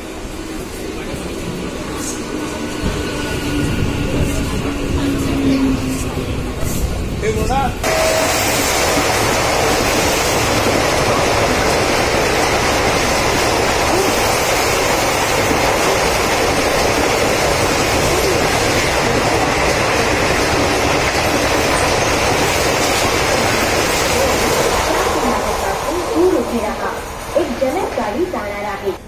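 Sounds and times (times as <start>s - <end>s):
train running at speed: 0.0s - 29.0s.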